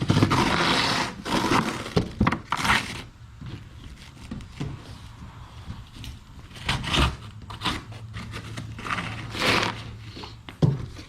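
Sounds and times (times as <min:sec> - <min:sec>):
cardboard rustling and crinkling: 0:00.0 - 0:11.0.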